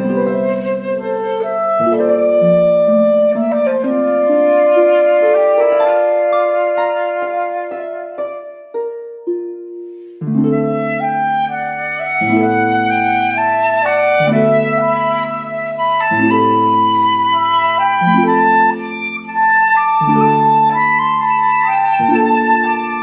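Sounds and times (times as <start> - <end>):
woodwind melody: 0.0 - 8.8, 10.3 - 23.0.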